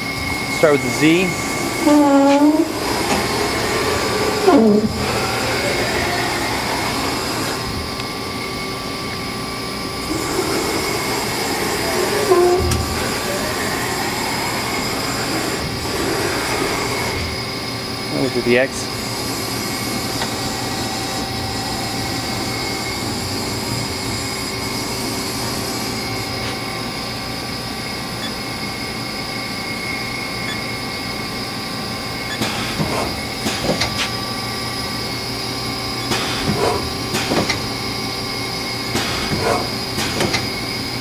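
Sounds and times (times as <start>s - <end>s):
lathe humming and whining: 0.0s - 41.0s.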